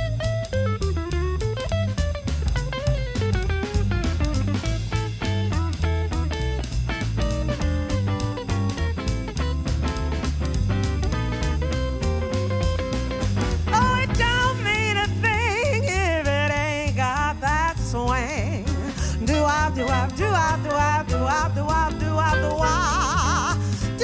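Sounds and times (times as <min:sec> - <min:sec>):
jazz band playing swing: 0:00.0 - 0:24.0.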